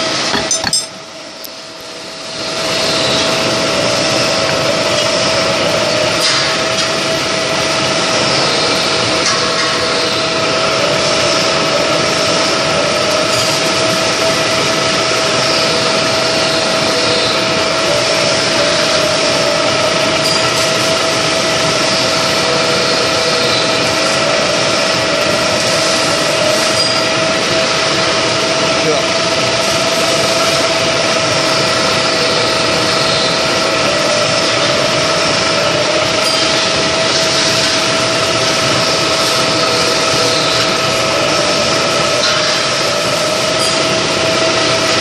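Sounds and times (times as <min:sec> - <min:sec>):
milling machine cutting metal: 0:00.0 - 0:45.0.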